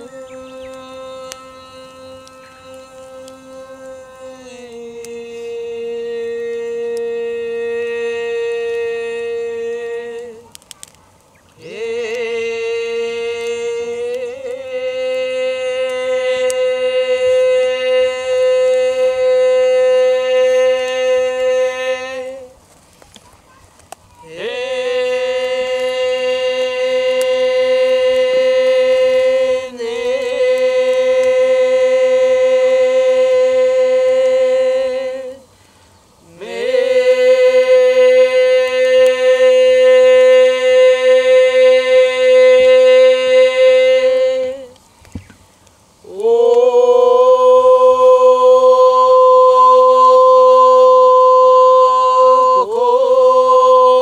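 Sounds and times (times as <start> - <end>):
long chanted tones: 0.0 - 11.0, 11.6 - 22.7, 24.2 - 44.8, 46.0 - 54.0.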